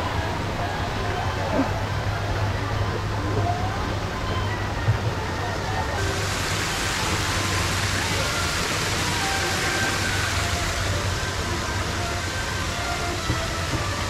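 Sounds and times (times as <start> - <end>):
fountain water splashing into pool: 0.2 - 14.0.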